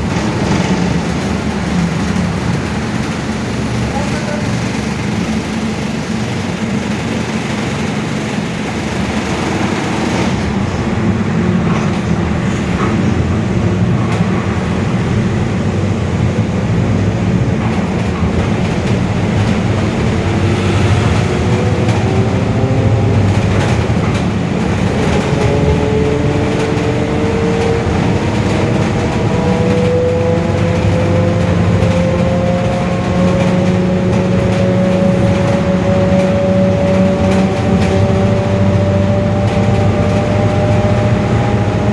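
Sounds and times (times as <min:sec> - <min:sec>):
bus differential whining: 0:00.0 - 0:41.9
engine and road noise: 0:00.0 - 0:41.9.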